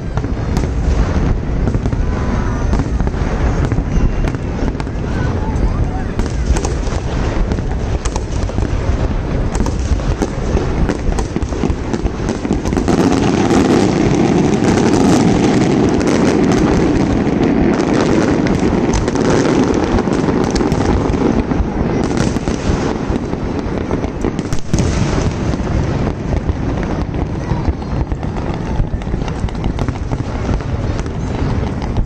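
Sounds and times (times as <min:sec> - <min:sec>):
fireworks bangs and pops: 0:00.0 - 0:32.0
fireworks crackle: 0:00.0 - 0:32.0.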